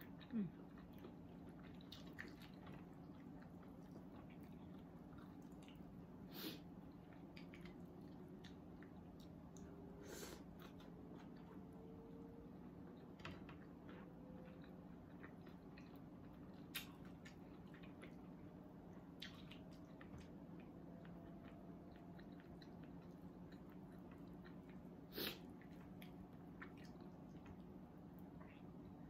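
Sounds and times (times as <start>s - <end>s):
person chewing: 0.0s - 11.9s, 13.6s - 29.0s
steady low hum: 0.0s - 29.0s.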